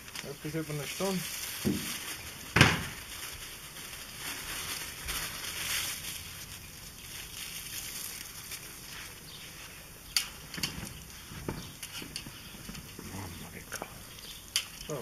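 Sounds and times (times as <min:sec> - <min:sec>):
charcoal fire hissing: 0:00.0 - 0:15.0
fire crackling: 0:00.0 - 0:15.0.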